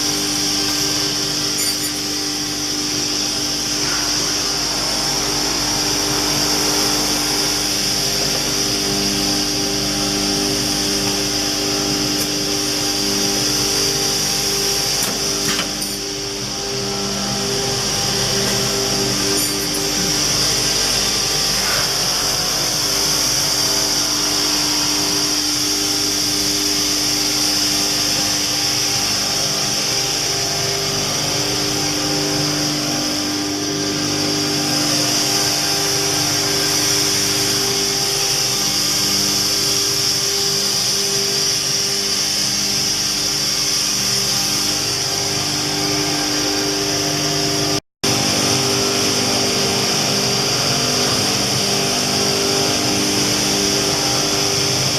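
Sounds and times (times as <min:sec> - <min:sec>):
machine motors humming: 0:00.0 - 0:54.9.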